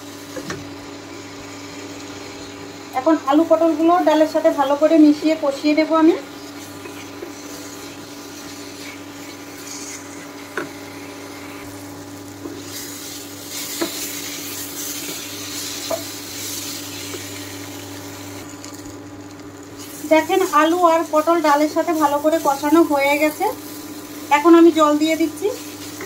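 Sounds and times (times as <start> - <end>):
food sizzling in a pan: 0.0 - 26.0
steady low hum: 0.0 - 26.0.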